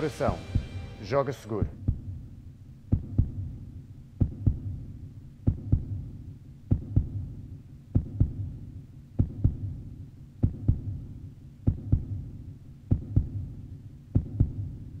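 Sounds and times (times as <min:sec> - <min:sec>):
heartbeat thumps: 0:00.0 - 0:01.0, 0:01.6 - 0:15.0
low hum: 0:00.0 - 0:15.0.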